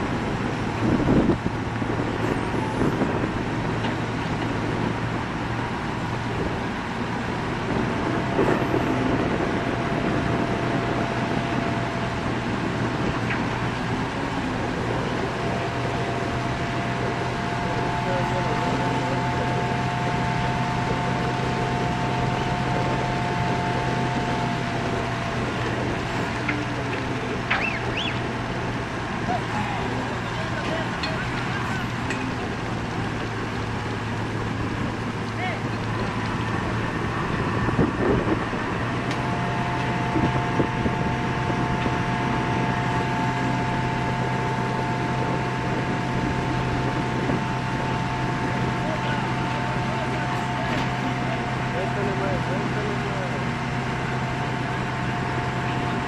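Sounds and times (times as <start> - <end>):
crane engine humming: 0.0 - 56.0.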